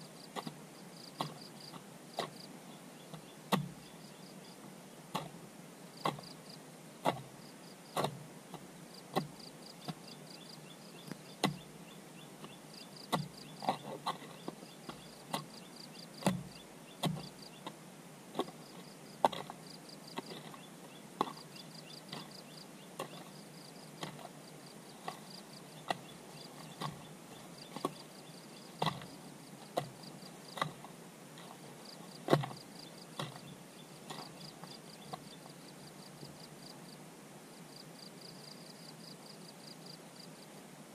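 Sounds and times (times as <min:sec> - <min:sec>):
insects chirping: 0:00.0 - 0:05.0, 0:05.8 - 0:06.7, 0:07.3 - 0:40.4.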